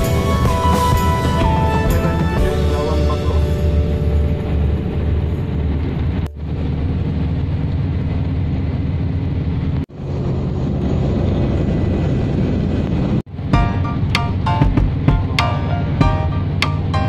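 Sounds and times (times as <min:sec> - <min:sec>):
vehicle rumble at highway speed: 0:00.0 - 0:17.0.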